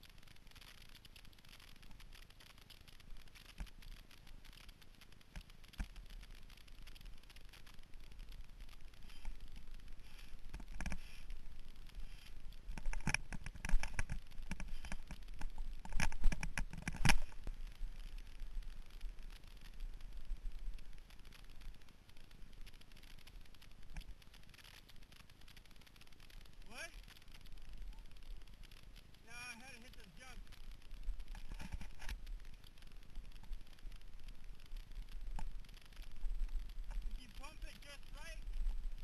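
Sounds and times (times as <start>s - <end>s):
bike rattling on rough trail: 0.0s - 39.0s.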